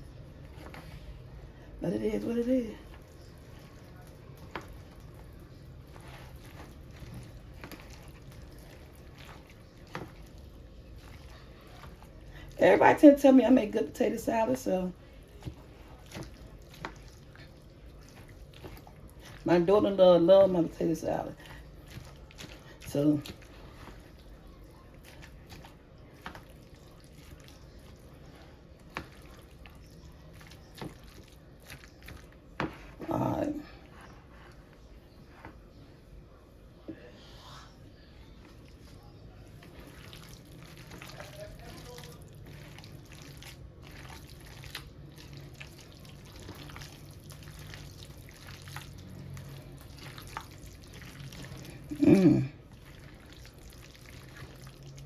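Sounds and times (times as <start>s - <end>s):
spatula stirring in a bowl: 0.0s - 55.0s
wet squishing of salad mixing: 0.0s - 55.0s.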